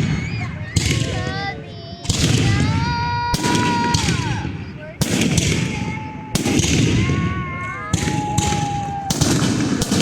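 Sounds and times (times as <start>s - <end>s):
firework bangs: 0.0s - 10.0s
firework crackling: 0.0s - 10.0s
firework whistling: 0.0s - 10.0s.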